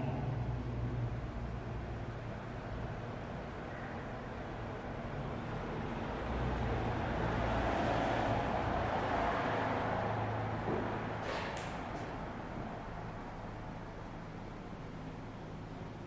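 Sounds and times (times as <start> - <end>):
low rumble and hiss: 0.0 - 7.6, 8.5 - 16.0.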